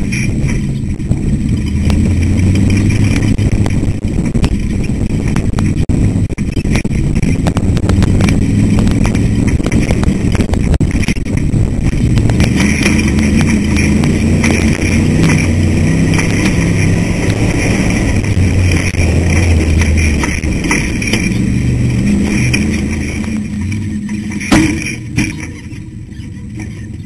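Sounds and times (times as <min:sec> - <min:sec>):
race car engine running hard: 0:00.0 - 0:27.0
sharp knocks and rattles: 0:00.0 - 0:27.0.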